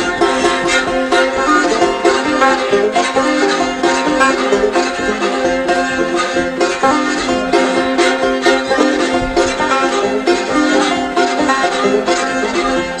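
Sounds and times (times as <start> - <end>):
fiddle playing held notes: 0.0 - 13.0
plucked banjo notes: 0.0 - 13.0.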